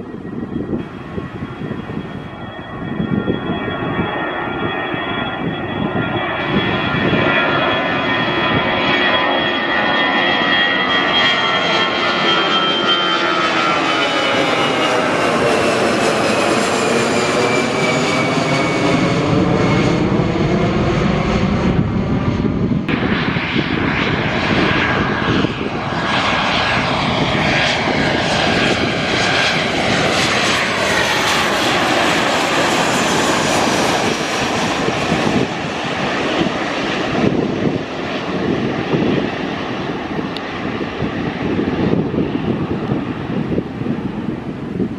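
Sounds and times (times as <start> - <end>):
jet engines passing close: 0.0 - 44.9.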